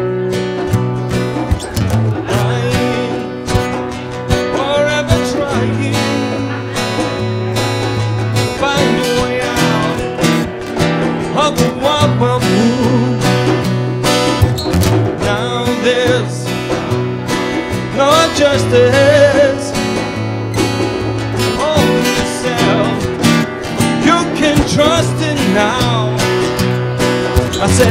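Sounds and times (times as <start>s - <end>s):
acoustic and electric guitars playing: 0.0s - 27.9s.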